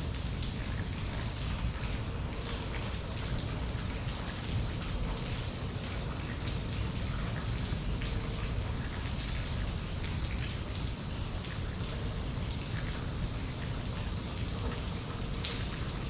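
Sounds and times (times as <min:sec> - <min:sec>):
constant low rumble: 0:00.0 - 0:16.0
raindrops pattering: 0:00.0 - 0:16.0.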